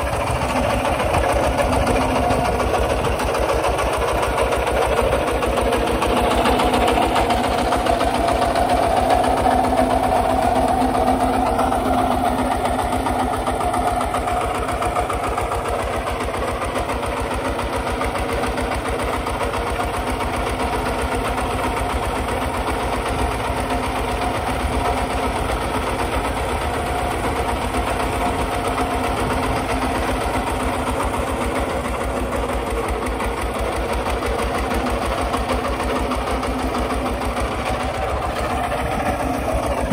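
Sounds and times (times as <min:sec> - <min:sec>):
single-cylinder diesel engine running: 0:00.0 - 0:39.9.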